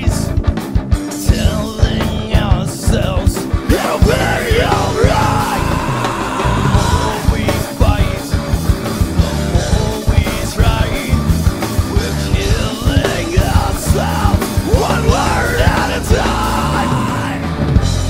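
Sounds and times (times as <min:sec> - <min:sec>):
man singing: 0:00.0 - 0:00.4, 0:01.0 - 0:17.6
drum kit with cymbals: 0:00.0 - 0:18.0
electric bass: 0:00.0 - 0:18.0
electric guitar: 0:00.0 - 0:18.0.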